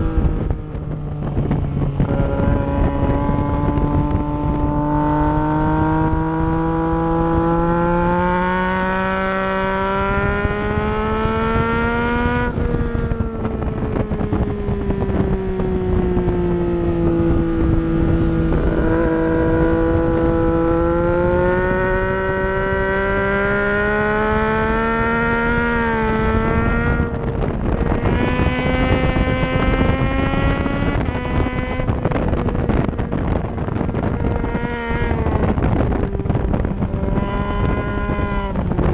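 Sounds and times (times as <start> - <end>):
motorcycle engine revving: 0.0 - 38.9
wind on microphone: 0.0 - 38.9.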